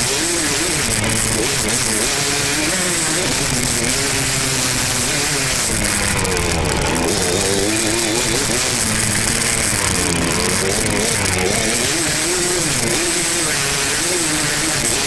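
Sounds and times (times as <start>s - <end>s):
two-stroke dirt bike engine revving: 0.0s - 15.0s.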